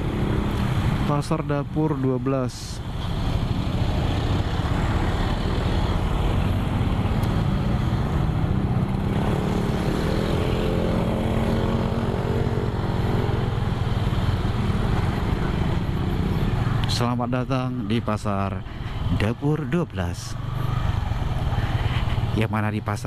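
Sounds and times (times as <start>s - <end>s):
motorcycles passing: 0.0s - 23.0s
road noise: 0.0s - 23.0s.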